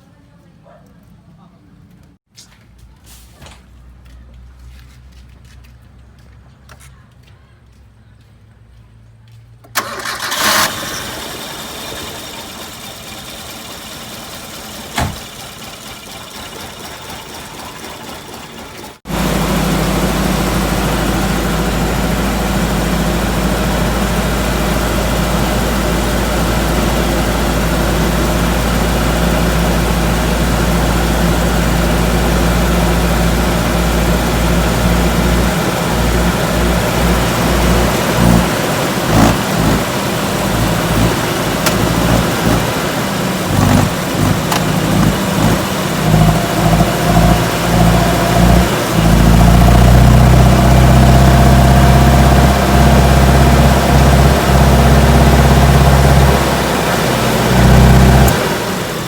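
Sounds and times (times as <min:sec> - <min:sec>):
car engine idling: 0:09.8 - 0:59.0.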